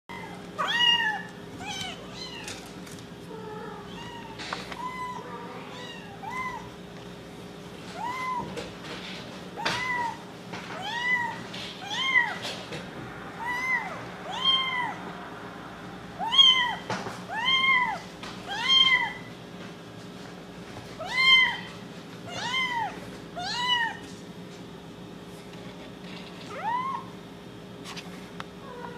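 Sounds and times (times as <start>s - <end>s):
faint steady hum: 0.1s - 28.9s.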